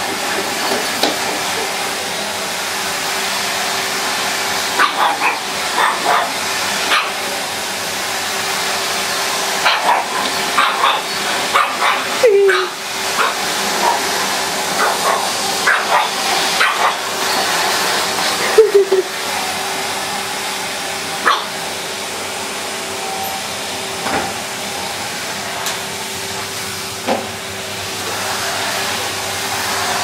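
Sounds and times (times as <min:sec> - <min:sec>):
vacuum cleaner hum: 0:00.0 - 0:30.0.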